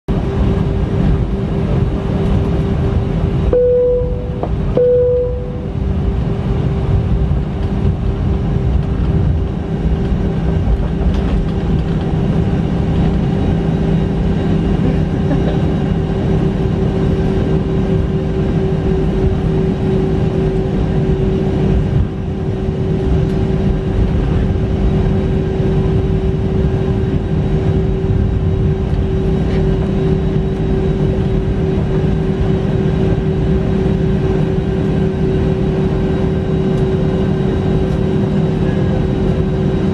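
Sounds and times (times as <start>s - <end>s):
jet engine rumble in cabin: 0.1s - 39.9s.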